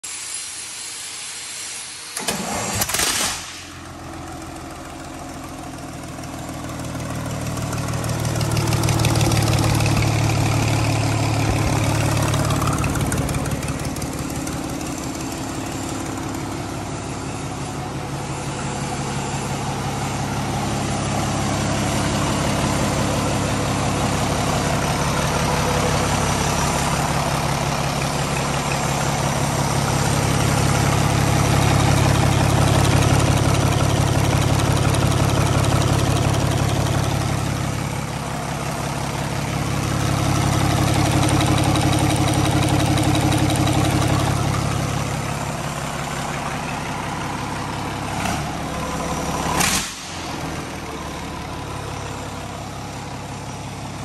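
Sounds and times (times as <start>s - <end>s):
diesel generator engine starting: 0.2s - 54.0s.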